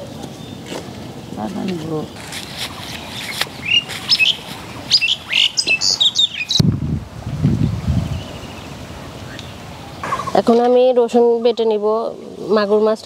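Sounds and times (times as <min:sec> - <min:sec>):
small birds chirping: 0:00.0 - 0:06.7, 0:07.6 - 0:13.0.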